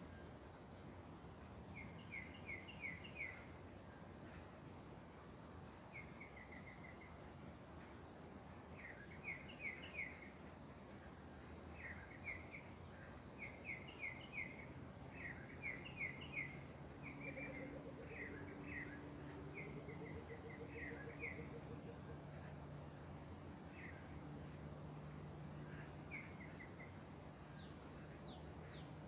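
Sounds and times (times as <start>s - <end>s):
bird singing: 0.0s - 4.4s, 5.6s - 29.0s
faint low hum: 0.0s - 29.0s.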